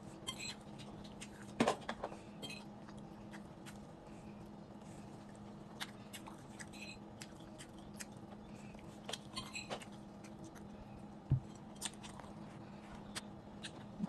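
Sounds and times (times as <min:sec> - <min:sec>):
steady low hum: 0:00.0 - 0:14.0
person chewing: 0:02.4 - 0:14.0.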